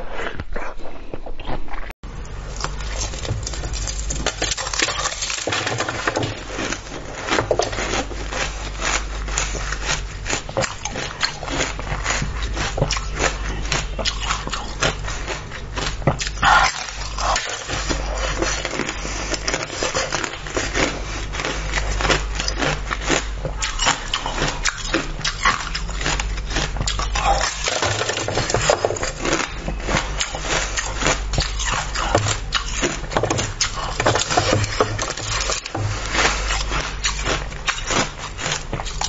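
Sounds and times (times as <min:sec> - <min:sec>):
chewing crunchy sweet: 0:00.0 - 0:39.0
low hum: 0:00.0 - 0:39.0.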